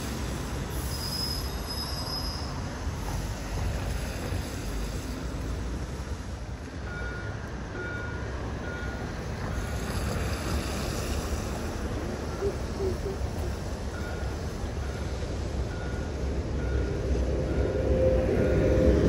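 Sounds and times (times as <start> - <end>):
tram running: 0.0 - 19.0.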